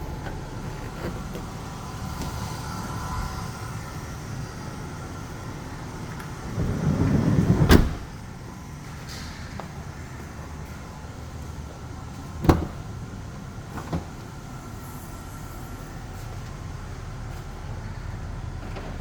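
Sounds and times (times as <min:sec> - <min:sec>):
sliding van door rolling and shutting: 0:00.0 - 0:15.0, 0:16.1 - 0:19.0.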